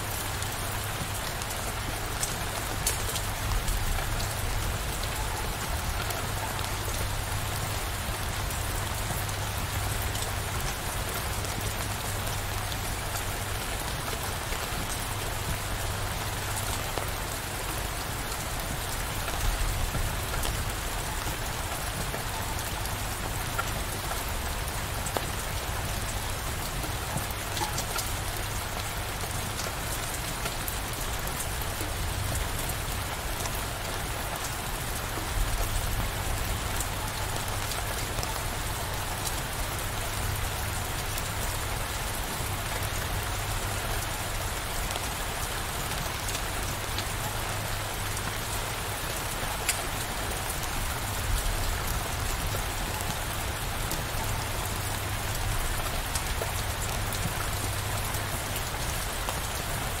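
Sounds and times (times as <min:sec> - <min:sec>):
rain falling: 0:00.0 - 1:00.0.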